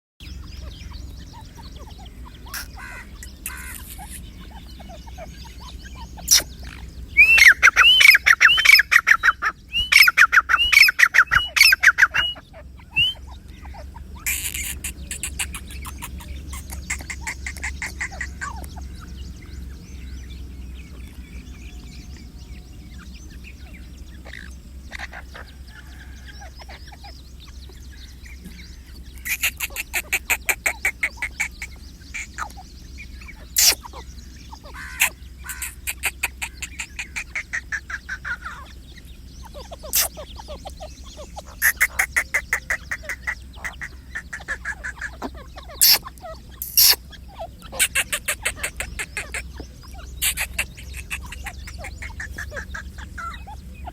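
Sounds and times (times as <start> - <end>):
francolin rattling calls: 0.2 - 53.9
low steady hum: 0.2 - 53.9.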